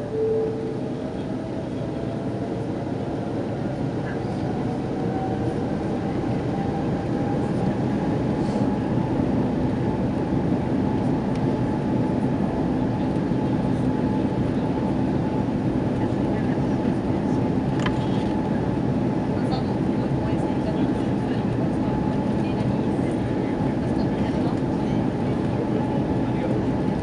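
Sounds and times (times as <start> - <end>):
jet engines rumbling with whine: 0.0 - 27.0.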